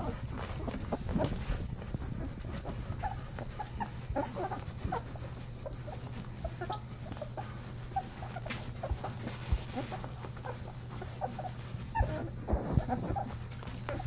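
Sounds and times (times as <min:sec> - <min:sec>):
low steady hum: 0:00.0 - 0:14.0
puppies squeaking and grunting: 0:00.0 - 0:14.0.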